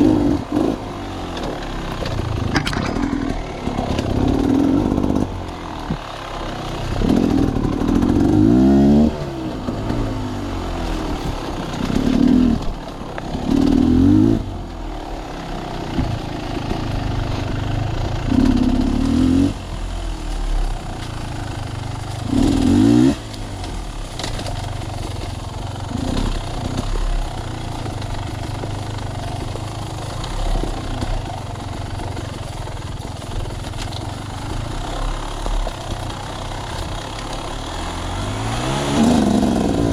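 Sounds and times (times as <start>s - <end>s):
sawmill machinery engine drone: 0.0s - 39.9s.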